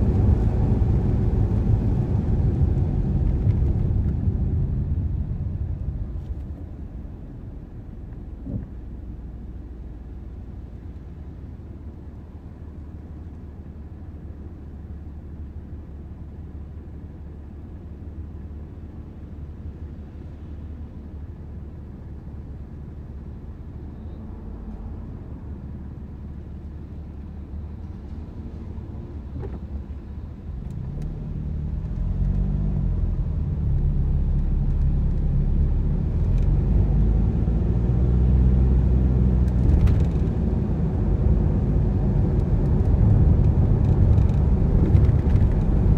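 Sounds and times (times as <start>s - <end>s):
car engine and tyres rumbling: 0.0s - 45.9s.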